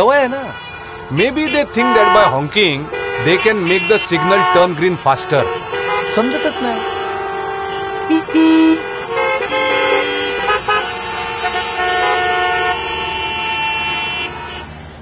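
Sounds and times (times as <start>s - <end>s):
vehicle horns honking: 0.0s - 14.9s.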